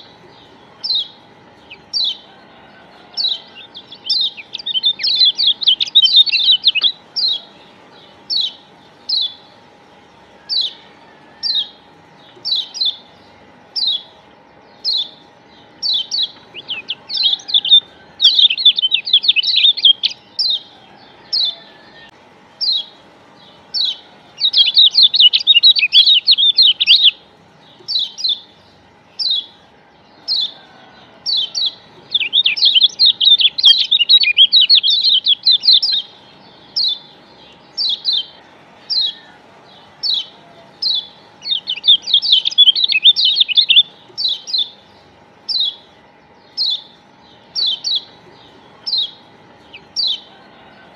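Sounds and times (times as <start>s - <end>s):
bird fast chattering: 0.0s - 21.7s, 22.6s - 29.6s, 31.2s - 50.3s.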